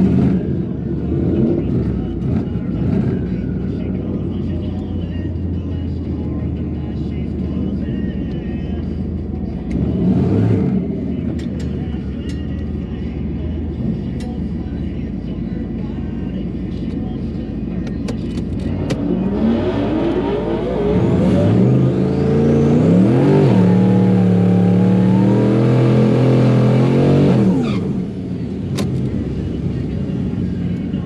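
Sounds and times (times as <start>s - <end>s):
engine rumbling and revving: 0.0s - 31.0s.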